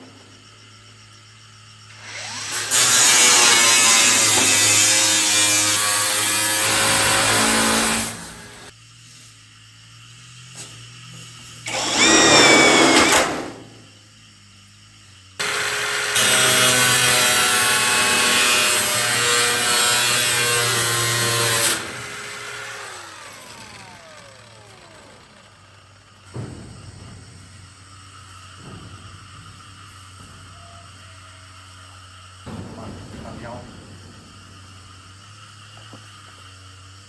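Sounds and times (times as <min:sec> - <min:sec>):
power tool whining: 0:00.0 - 0:08.8, 0:11.5 - 0:14.0, 0:15.4 - 0:37.0.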